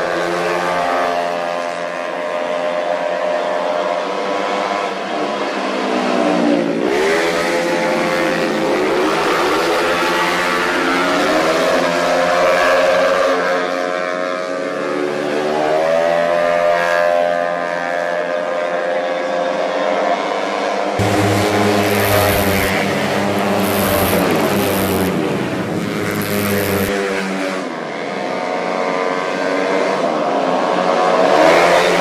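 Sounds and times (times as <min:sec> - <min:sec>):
scooter engines revving high: 0:00.0 - 0:19.4, 0:21.0 - 0:32.0.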